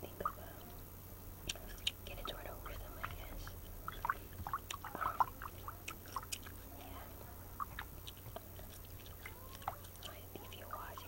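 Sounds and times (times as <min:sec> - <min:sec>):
gum chewing: 0:00.1 - 0:11.0.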